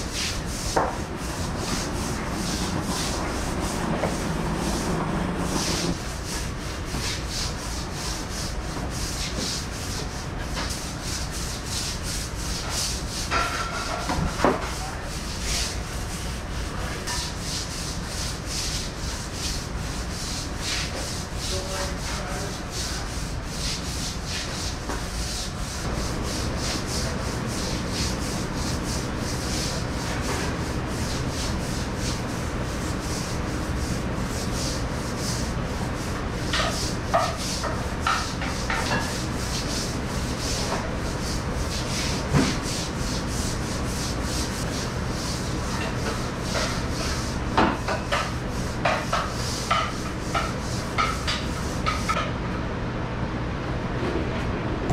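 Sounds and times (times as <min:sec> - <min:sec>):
steady low hum: 0:00.0 - 0:13.7, 0:14.8 - 0:47.6
brush scrubbing wet tile floor: 0:00.0 - 0:52.2.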